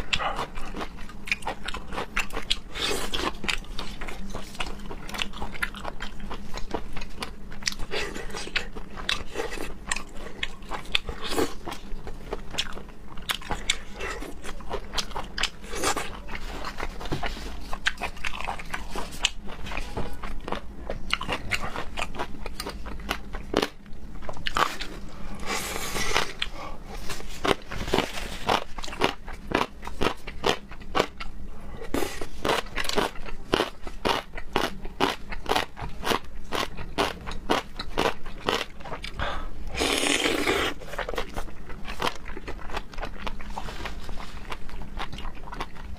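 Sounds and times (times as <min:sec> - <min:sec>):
crunchy chewing of seafood: 0:00.0 - 0:45.9.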